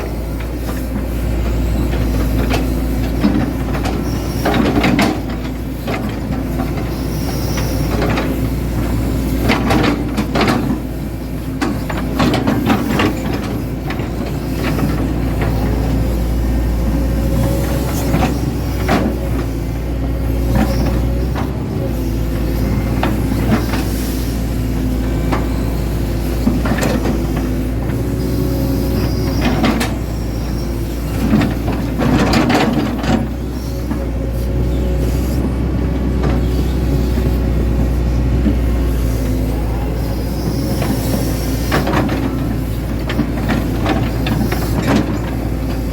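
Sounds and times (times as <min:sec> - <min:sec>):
excavator diesel engine humming: 0:00.0 - 0:45.9.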